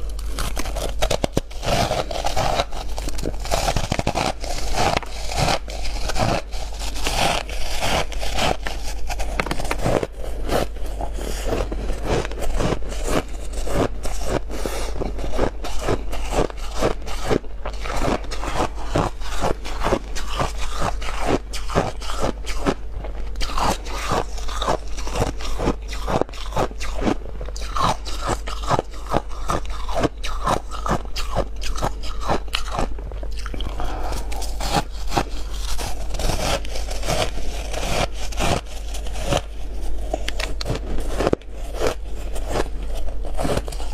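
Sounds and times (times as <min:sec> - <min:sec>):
crunching and chewing ice: 0:00.0 - 0:43.9.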